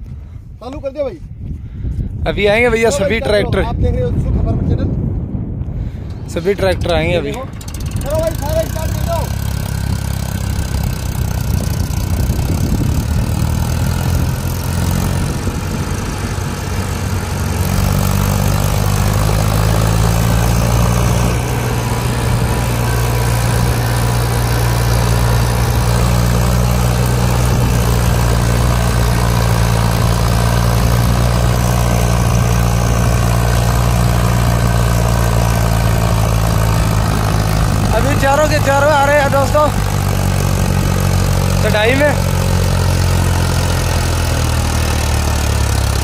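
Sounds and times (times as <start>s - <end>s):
other tractors running: 0.0s - 46.0s
tractor engine under load: 5.9s - 46.0s.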